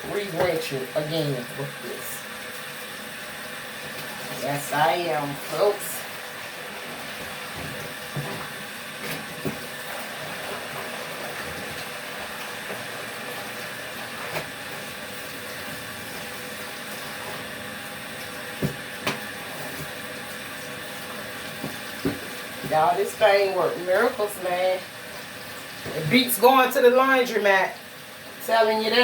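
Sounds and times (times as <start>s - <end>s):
washing machine hum: 0.0s - 29.0s
water rushing in washing machine: 0.0s - 29.0s.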